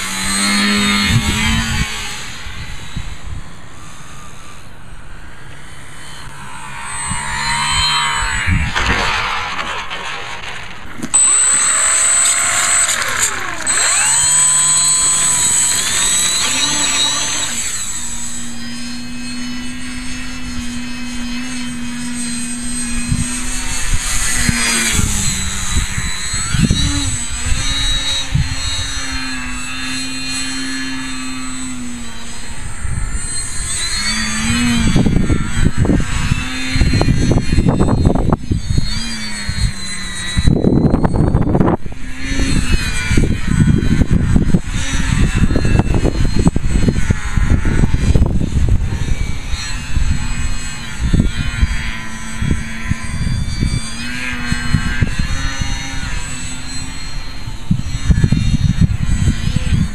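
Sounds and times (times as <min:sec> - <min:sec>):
electric model plane motor buzzing: 0:00.0 - 0:59.9
wind buffeting microphone: 0:00.0 - 0:59.9.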